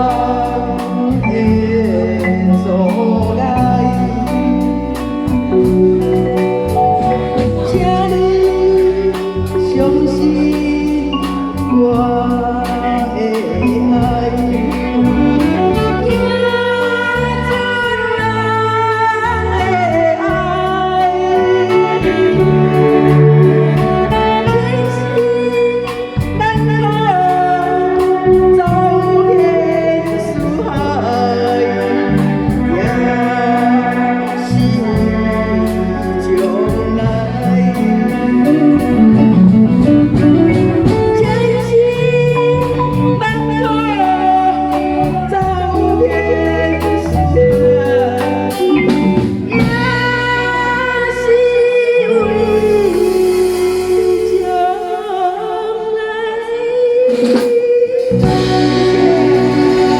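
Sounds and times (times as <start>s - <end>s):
instrumental backing with bass: 0.0s - 59.9s
woman singing a ballad: 0.0s - 59.9s.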